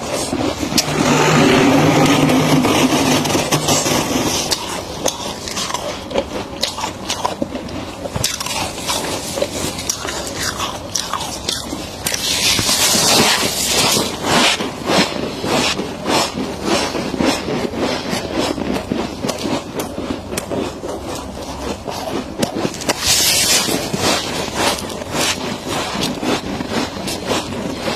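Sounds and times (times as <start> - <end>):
frost being scraped: 0.0 - 27.9
chewing frost crunches: 0.1 - 27.9.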